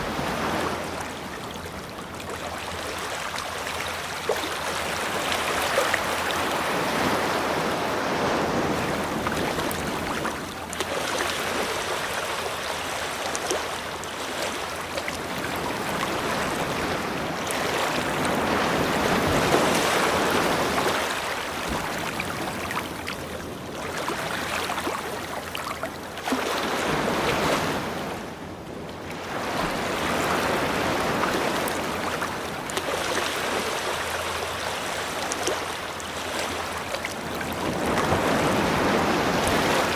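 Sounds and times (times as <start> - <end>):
ocean waves breaking on a beach: 0.0 - 39.9.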